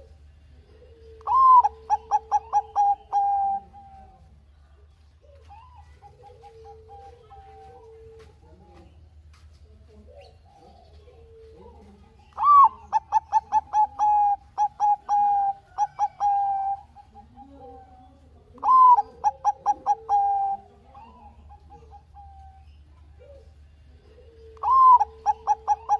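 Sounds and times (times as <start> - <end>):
fainter bird calls: 0.0 - 8.4, 10.1 - 25.9
dove cooing song: 0.0 - 25.9.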